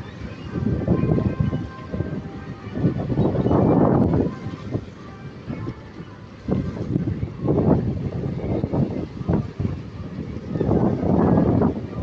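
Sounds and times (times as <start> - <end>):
ship engines rumbling: 0.0 - 12.0
wind buffeting microphone: 0.0 - 12.0.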